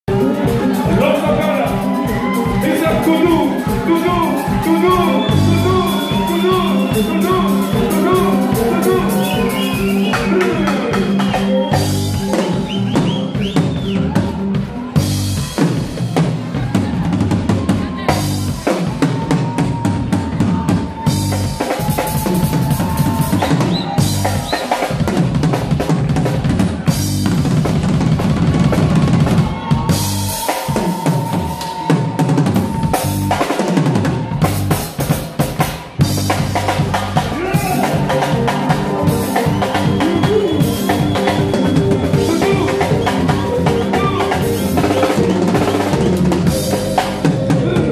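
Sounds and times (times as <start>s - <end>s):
bass line: 0.0s - 47.9s
drum kit played hard: 0.0s - 47.9s.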